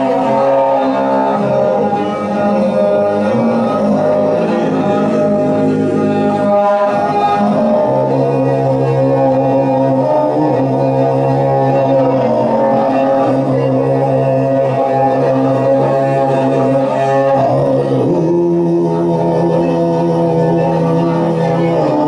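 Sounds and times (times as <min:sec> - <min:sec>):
man throat singing: 0:00.0 - 0:22.0.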